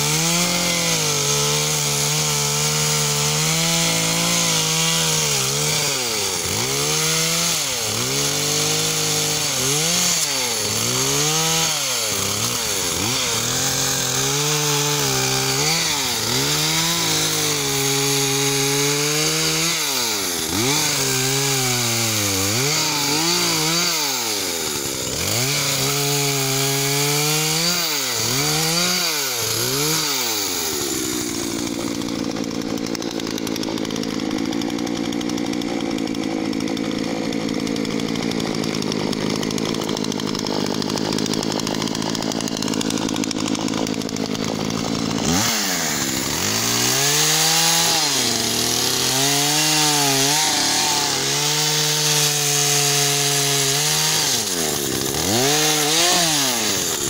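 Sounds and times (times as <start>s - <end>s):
chainsaw cutting branches: 0.0s - 57.0s.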